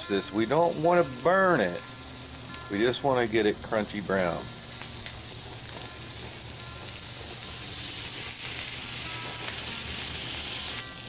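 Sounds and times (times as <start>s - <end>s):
fish sizzling in skillet: 0.0s - 11.0s.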